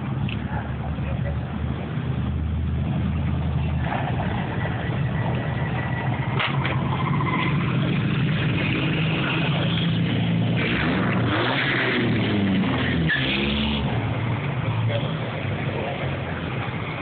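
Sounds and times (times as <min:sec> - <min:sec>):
vehicles driving slowly past: 0:00.0 - 0:17.0.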